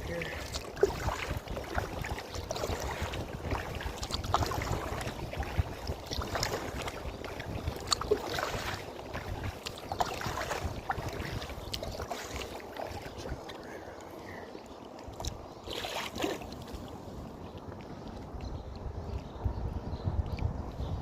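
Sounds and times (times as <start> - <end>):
wind on microphone: 0.0 - 14.5, 15.1 - 21.0.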